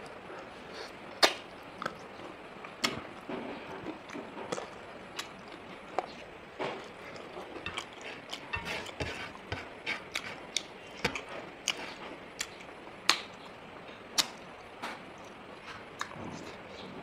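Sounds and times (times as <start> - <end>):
person chewing food: 0.4 - 3.2, 3.8 - 13.6, 15.2 - 16.8.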